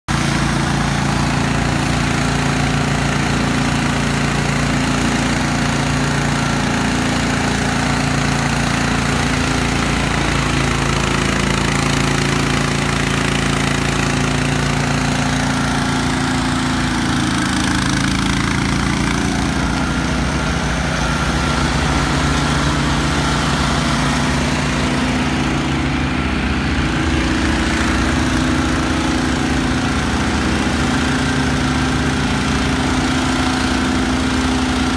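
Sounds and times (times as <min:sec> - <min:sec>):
small gasoline engine running: 0:00.1 - 0:34.9.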